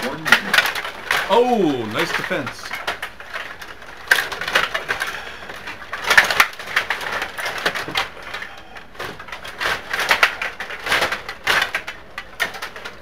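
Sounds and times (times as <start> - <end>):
plastic players clacking puck: 0.0 - 13.0.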